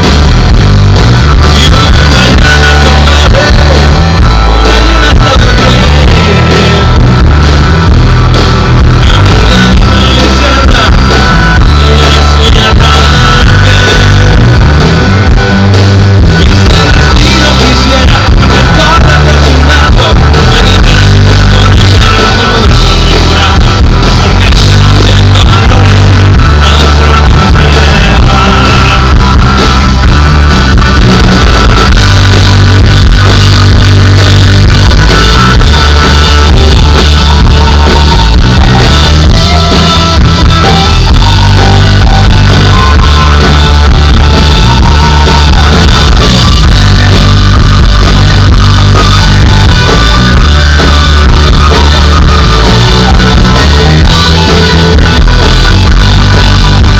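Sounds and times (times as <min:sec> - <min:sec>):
rock band playing loud: 0:00.0 - 0:56.9
person singing: 0:01.2 - 0:07.4, 0:08.8 - 0:15.4, 0:16.3 - 0:30.1, 0:30.9 - 0:56.9.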